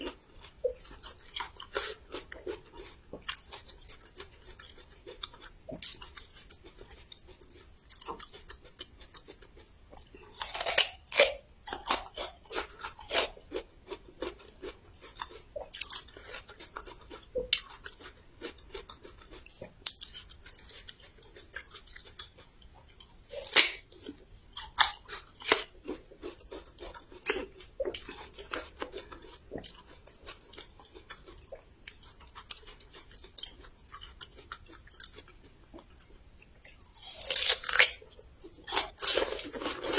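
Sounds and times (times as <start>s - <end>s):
crunchy chewing of ginger: 0.0s - 39.9s.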